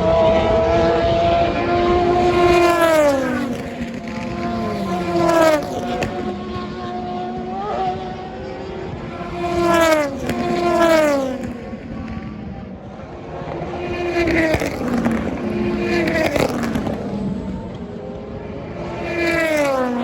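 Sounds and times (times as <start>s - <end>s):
distant race cars running: 0.0s - 20.0s
race cars passing at speed: 0.0s - 20.0s.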